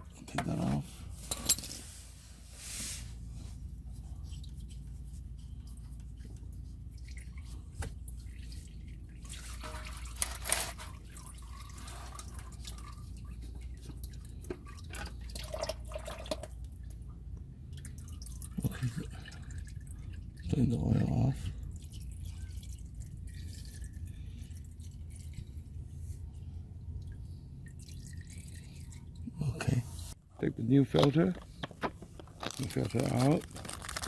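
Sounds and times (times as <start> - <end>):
steady low hum: 0.0 - 33.2.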